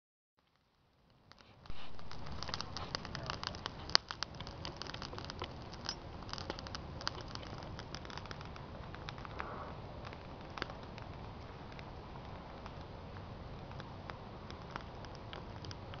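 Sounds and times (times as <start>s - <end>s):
bonfire crackling and popping: 0.4s - 16.0s.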